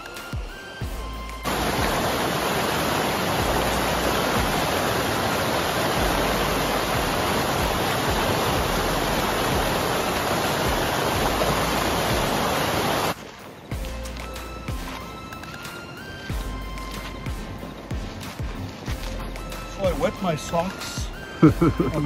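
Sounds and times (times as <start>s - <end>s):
river rushing over rocks: 1.4s - 21.4s.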